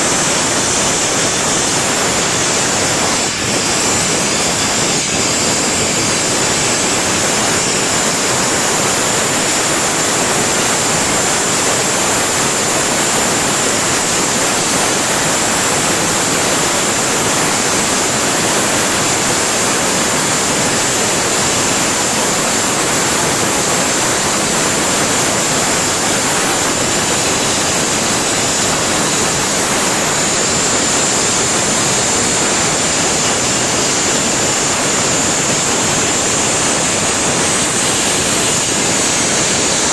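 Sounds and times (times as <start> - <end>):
burner flame hissing: 0.0 - 39.9.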